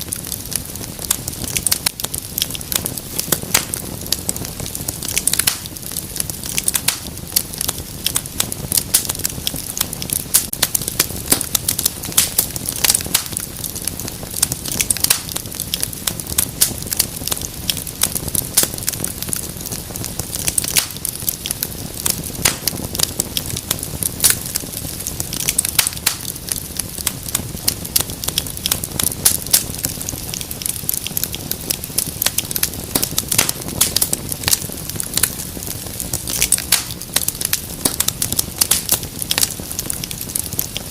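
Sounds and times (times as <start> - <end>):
fire low hiss: 0.0 - 40.9
fire pops and snaps: 0.0 - 40.9
wood fire crackling: 0.0 - 40.9.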